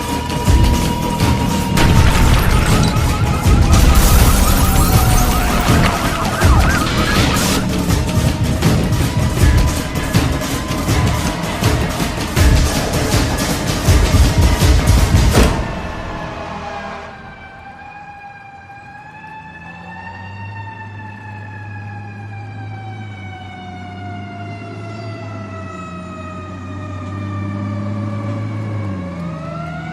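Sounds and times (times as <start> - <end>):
siren wailing: 0.0 - 11.8, 16.2 - 29.9.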